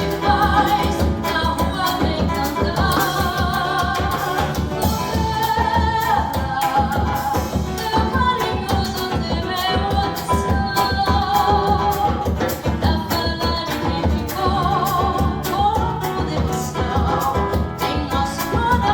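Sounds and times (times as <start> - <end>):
acoustic guitar: 0.0 - 18.9
hand percussion: 0.0 - 18.9
woman singing: 0.0 - 18.9.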